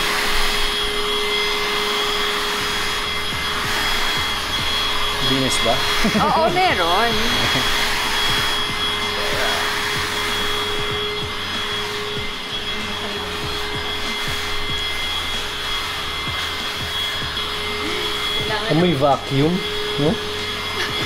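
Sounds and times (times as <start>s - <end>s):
handheld vacuum cleaner running: 0.0s - 21.0s.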